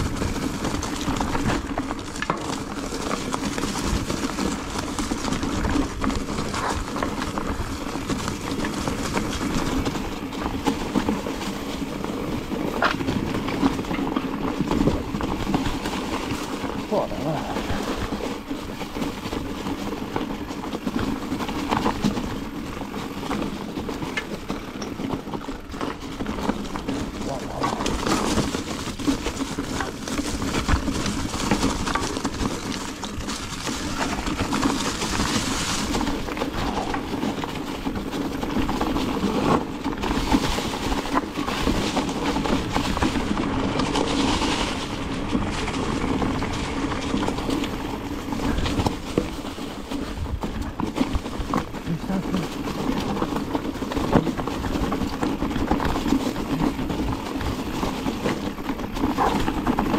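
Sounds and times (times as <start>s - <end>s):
bike rattling over bumps: 0.0s - 59.9s
tyres crunching over leaves: 0.0s - 59.9s.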